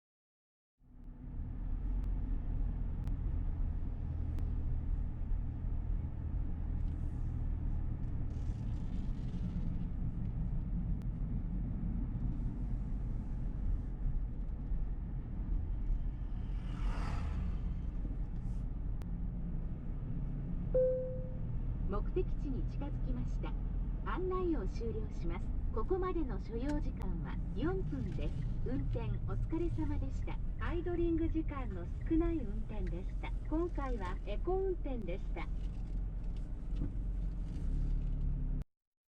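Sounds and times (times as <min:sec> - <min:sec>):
car cabin road rumble: 0:01.0 - 0:38.6.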